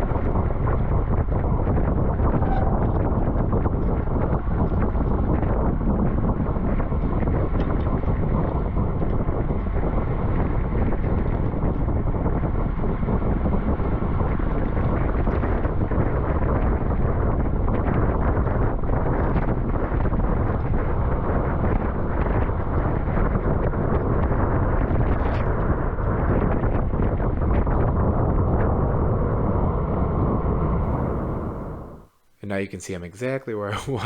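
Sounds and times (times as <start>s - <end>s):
wind rushing over microphone: 0.0s - 32.2s.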